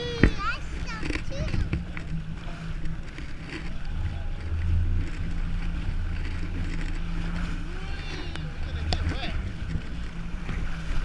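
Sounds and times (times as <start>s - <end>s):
jet ski engine droning: 0.0s - 11.0s.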